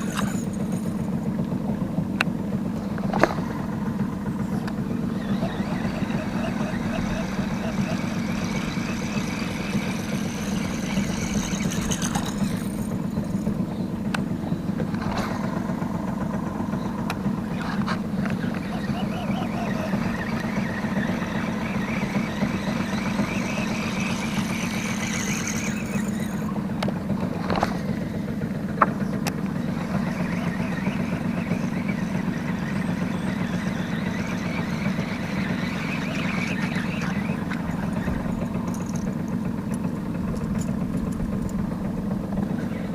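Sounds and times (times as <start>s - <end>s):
boat motor running: 0.0s - 42.9s.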